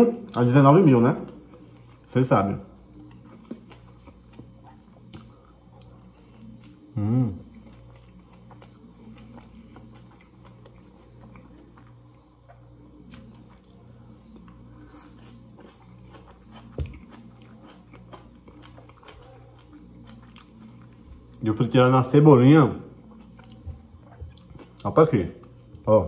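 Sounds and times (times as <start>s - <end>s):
low steady hum: 0.0s - 26.0s
close-up chewing: 2.8s - 21.5s, 23.0s - 25.9s.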